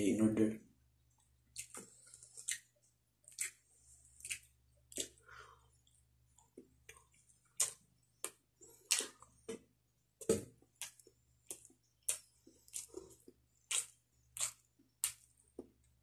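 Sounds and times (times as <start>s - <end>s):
person chewing with wet smacks: 1.1s - 9.6s, 10.2s - 16.0s.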